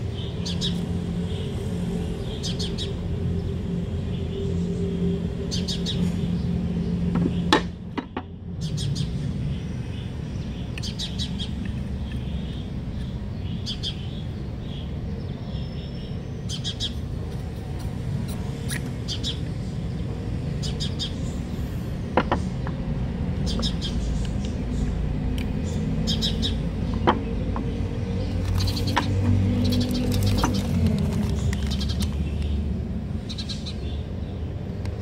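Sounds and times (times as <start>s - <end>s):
steady low rumble: 0.0s - 34.6s
small birds chirping: 0.0s - 35.0s.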